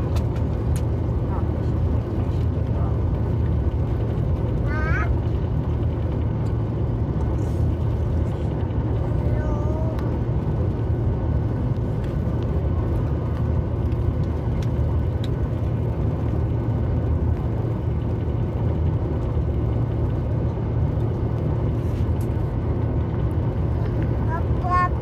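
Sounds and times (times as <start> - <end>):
airplane engine rumble in cabin: 0.0 - 25.0.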